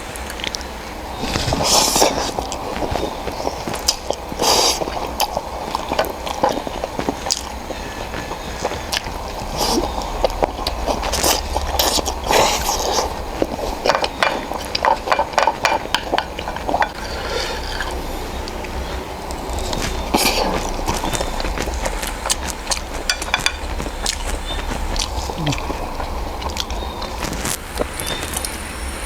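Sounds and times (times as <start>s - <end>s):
wet clicks and smacks: 0.2s - 28.6s
person chewing: 0.2s - 29.0s
person slurping noodles: 1.2s - 28.7s.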